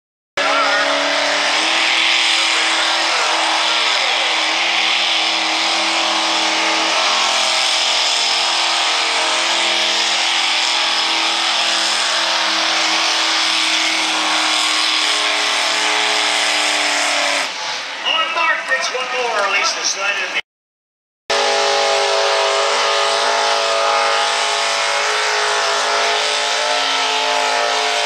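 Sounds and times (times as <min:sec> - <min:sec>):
tractor engine revving high: 0:00.4 - 0:18.5, 0:21.3 - 0:28.0.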